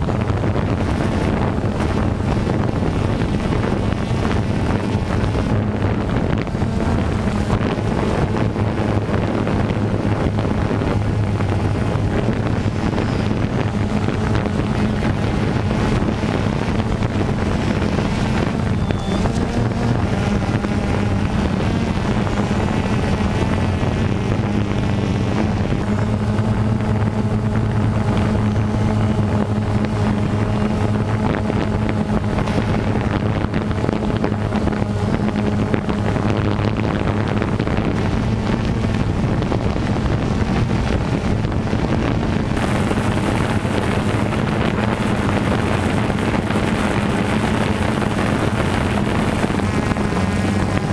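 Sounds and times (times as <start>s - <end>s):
quadcopter motors humming: 0.0s - 50.9s
wind buffeting microphone: 0.0s - 50.9s.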